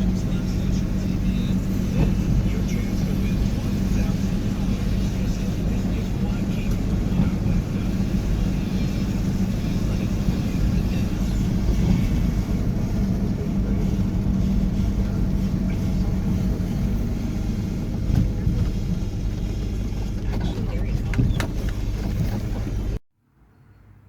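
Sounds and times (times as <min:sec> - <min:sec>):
car engine rumble: 0:00.0 - 0:23.0
road noise: 0:00.0 - 0:24.0.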